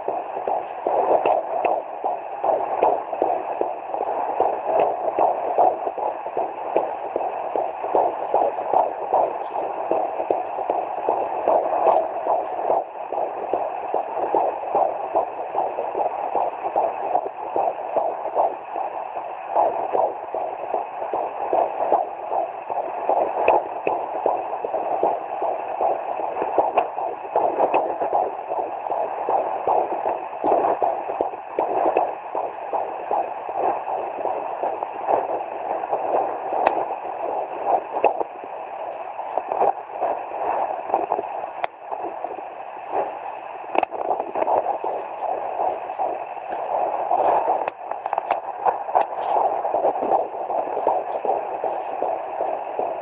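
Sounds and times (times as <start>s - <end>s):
fetal heartbeat whooshing: 0.0s - 53.0s.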